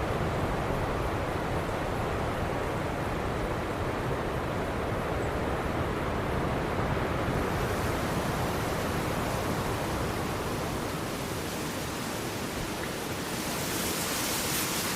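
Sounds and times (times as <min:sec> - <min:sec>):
waves breaking on beach: 0:00.0 - 0:14.9.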